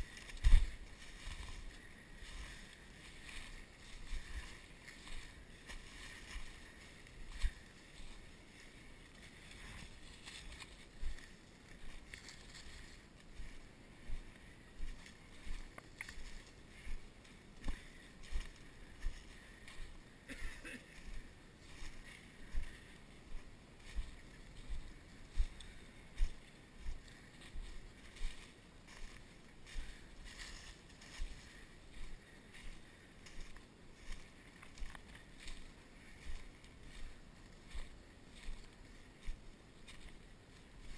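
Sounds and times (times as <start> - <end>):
footsteps through dry leaves: 0.0 - 20.0, 20.6 - 40.9
leaves and twigs crunching: 0.0 - 40.9.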